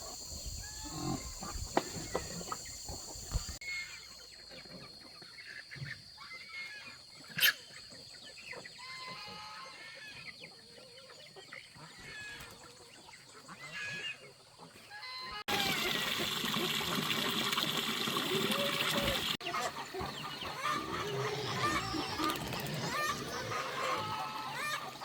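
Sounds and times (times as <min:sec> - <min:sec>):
chickens clucking: 0:00.0 - 0:03.6, 0:04.4 - 0:25.0.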